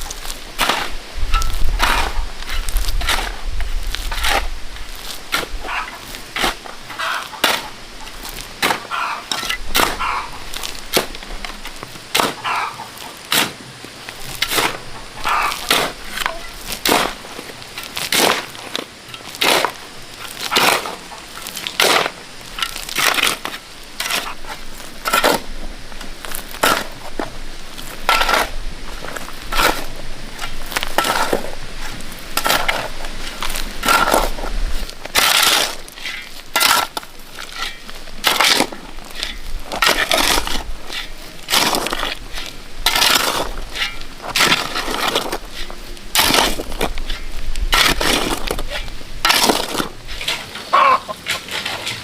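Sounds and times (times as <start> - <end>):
shovel scraping concrete mix: 0.0 - 52.0.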